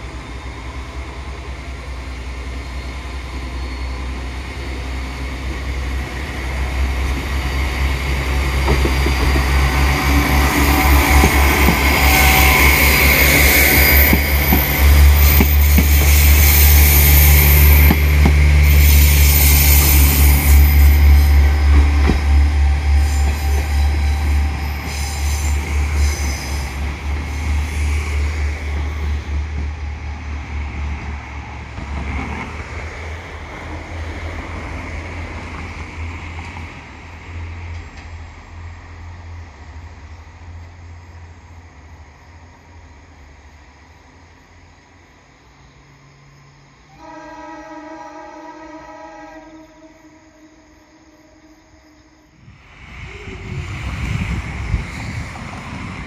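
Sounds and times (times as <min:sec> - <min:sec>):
train running on rails: 0:00.0 - 0:56.0.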